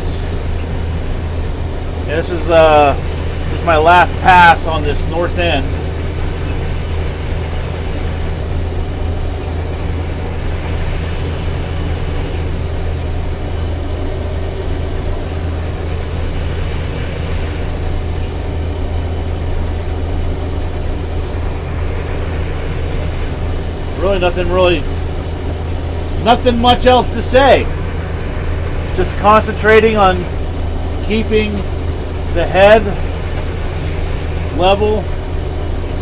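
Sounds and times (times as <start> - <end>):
combine harvester engine drone: 0.0 - 36.0.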